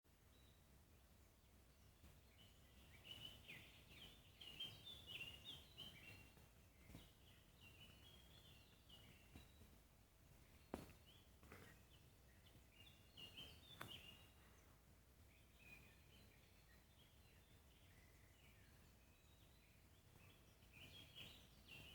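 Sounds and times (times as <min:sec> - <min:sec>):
low background hiss: 0:00.1 - 0:21.9
songbird chirping: 0:00.1 - 0:21.9.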